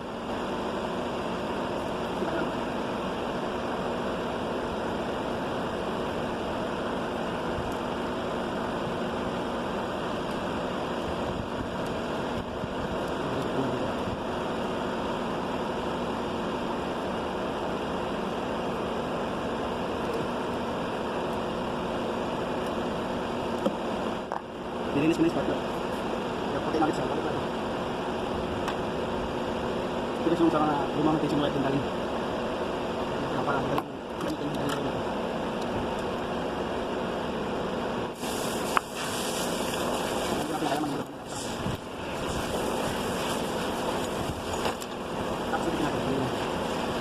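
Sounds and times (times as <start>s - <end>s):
steady whooshing fan noise: 0.0s - 47.0s.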